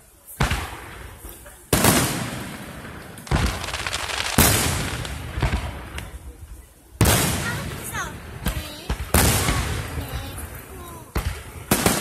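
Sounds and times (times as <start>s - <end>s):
small firework crackles: 0.0s - 12.0s
firework shells booming: 0.4s - 6.3s, 7.0s - 12.0s.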